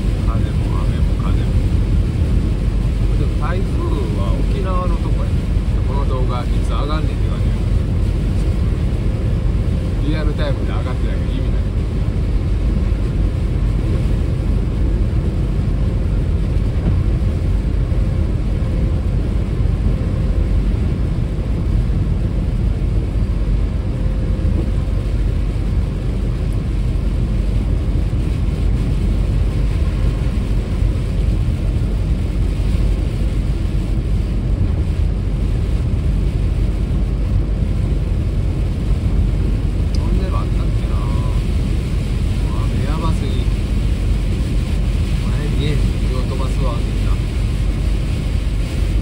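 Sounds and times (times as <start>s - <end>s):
tyre and wind rumble in car: 0.0s - 49.0s.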